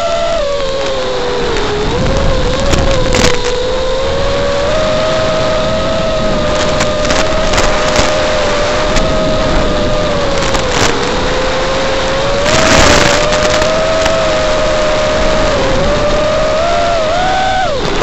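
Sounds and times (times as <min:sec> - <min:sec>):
quadcopter motors whining: 0:00.0 - 0:18.0
static hiss and crackles: 0:00.0 - 0:18.0.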